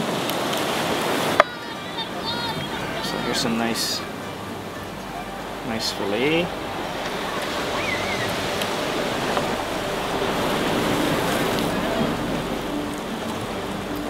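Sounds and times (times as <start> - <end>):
ocean surf on rocks: 0.0 - 14.0.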